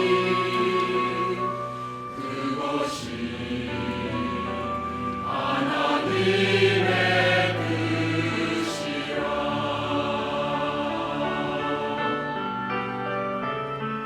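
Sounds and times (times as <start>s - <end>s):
church choir singing: 0.0s - 13.9s
instrumental accompaniment: 0.0s - 14.0s.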